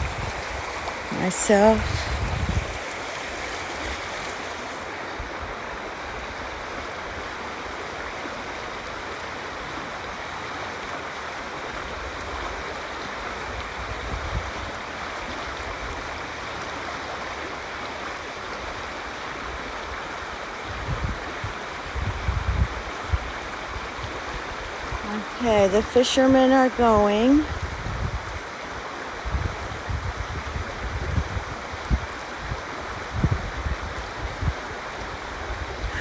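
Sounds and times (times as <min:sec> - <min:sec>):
river water over rocks: 0:00.0 - 0:36.0.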